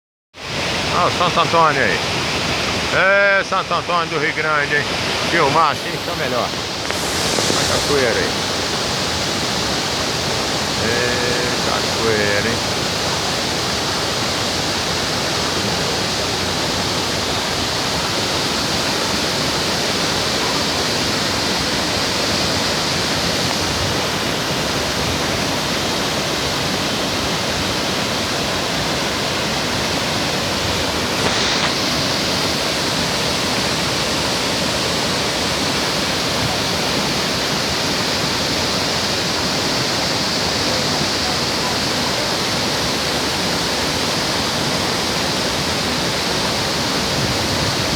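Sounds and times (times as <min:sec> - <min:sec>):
waterfall rushing: 0:00.4 - 0:47.9.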